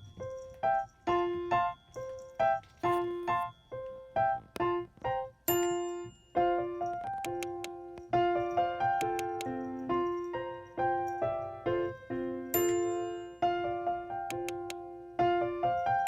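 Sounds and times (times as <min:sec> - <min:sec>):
light piano melody: 0:00.0 - 0:16.0.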